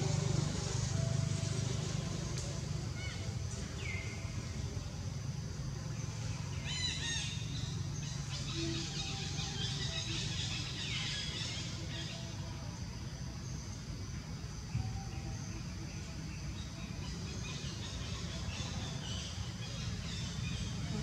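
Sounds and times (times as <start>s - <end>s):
constant high hiss: 0.0s - 21.0s.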